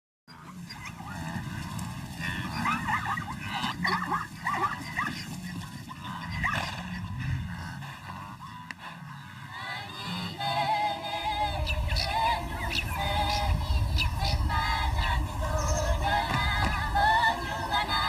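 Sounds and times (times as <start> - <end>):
high animal calls: 0.3 - 18.0.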